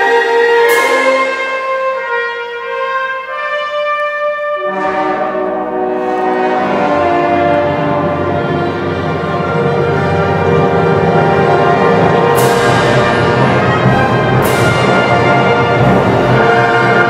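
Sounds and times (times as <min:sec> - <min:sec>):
brass section: 0:00.0 - 0:17.0
low instruments: 0:00.0 - 0:17.0
orchestra playing sustained chords: 0:00.0 - 0:17.0.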